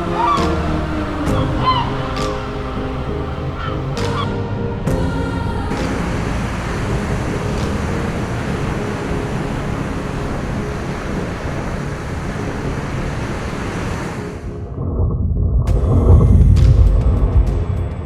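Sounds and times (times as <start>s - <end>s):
deep rumble: 0.0s - 18.0s
rushing wind: 0.0s - 18.0s.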